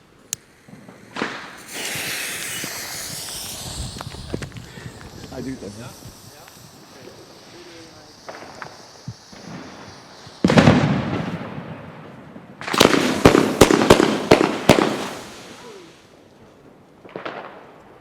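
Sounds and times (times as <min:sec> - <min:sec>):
firework shot with hiss: 0:00.0 - 0:16.2
firework cracks and bangs: 0:00.0 - 0:18.0.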